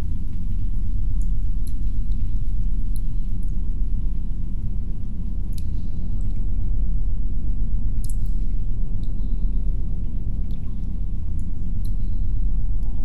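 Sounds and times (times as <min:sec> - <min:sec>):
low muffled rumble: 0:00.0 - 0:13.0.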